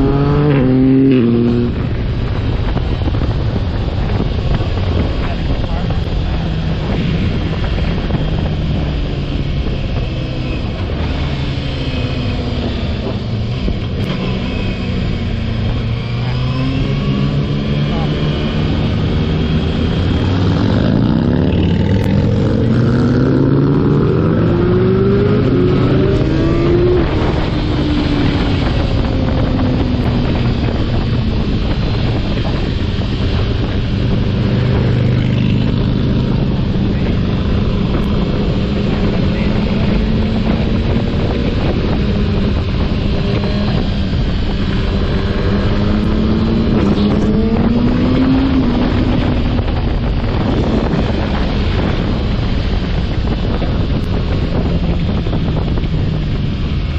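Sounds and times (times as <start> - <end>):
motorcycle engine revving: 0.0 - 56.9
wind noise on microphone: 0.0 - 56.9.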